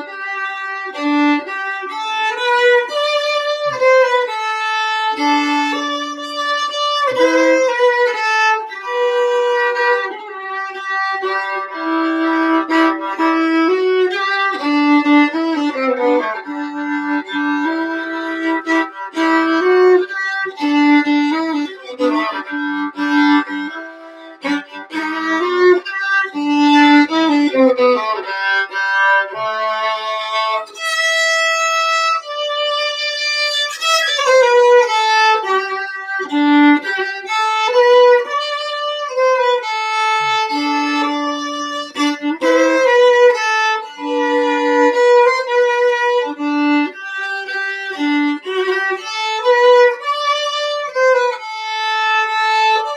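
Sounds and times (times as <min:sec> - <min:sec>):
solo fiddle playing: 0:00.0 - 0:52.9.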